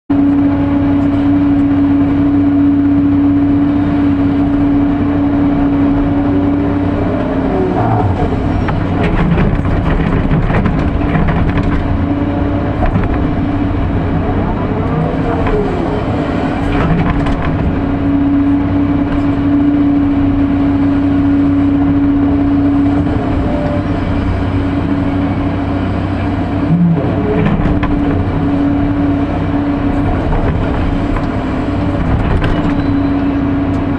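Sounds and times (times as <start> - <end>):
excavator diesel engine drone: 0.1 - 33.9
excavator clanks and scraping: 6.0 - 33.9.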